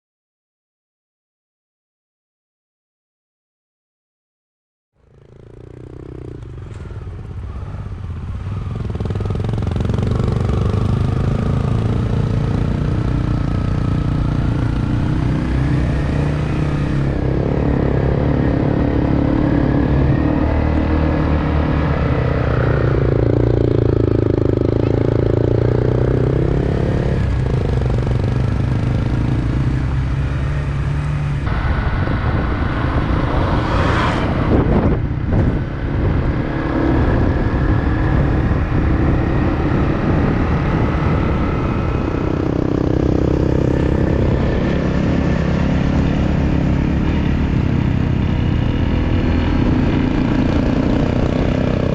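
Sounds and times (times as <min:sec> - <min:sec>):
motorcycle engine running: 0:05.0 - 0:33.6, 0:34.3 - 0:51.9.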